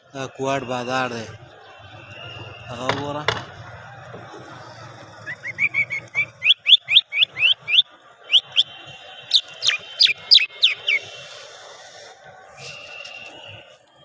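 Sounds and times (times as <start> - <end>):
lark singing whistled notes: 0.1 - 3.1, 5.1 - 14.0.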